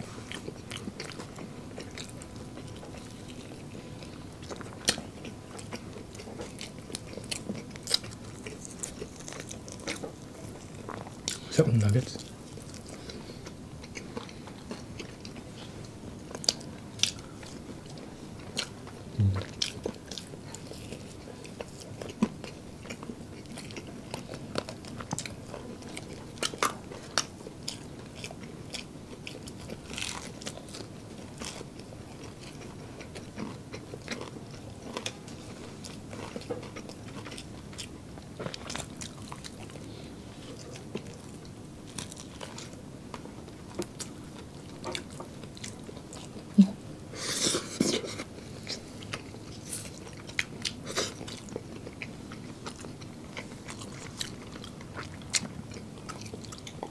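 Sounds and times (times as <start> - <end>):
chewing crispy fried chicken: 0.0 - 56.9.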